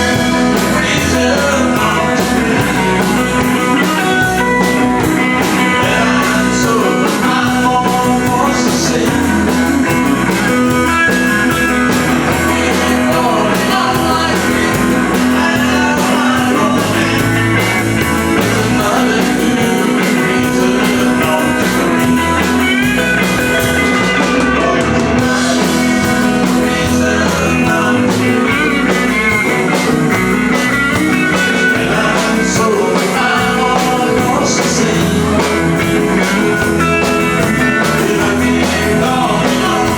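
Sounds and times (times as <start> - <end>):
electric guitar: 0.0 - 39.9
live country band playing: 0.0 - 39.9.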